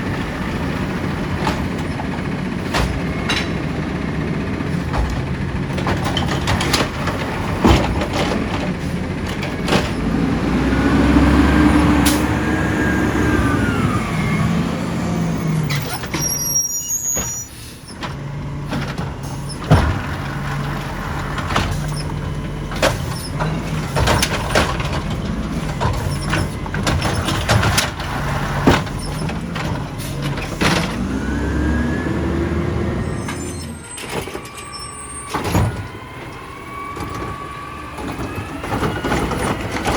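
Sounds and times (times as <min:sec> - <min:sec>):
diesel engine running and revving: 0:00.0 - 0:39.9.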